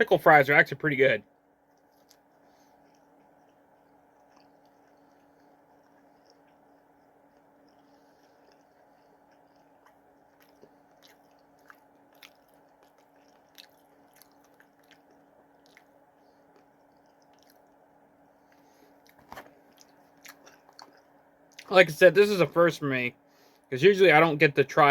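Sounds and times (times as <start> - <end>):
steady low hum: 0.0 - 24.9
chewing and crunching food: 0.1 - 21.8.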